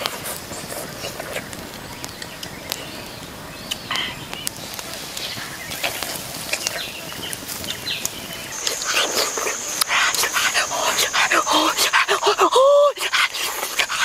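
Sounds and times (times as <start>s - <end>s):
fire popping: 0.0s - 14.0s
wood fire crackling: 0.0s - 14.0s.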